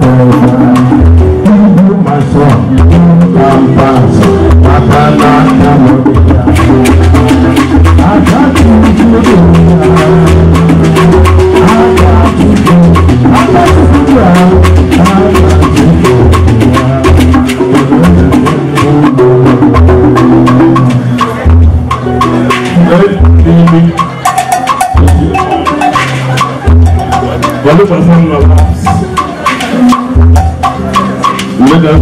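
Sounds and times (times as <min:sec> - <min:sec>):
percussion band music: 0:00.0 - 0:32.0.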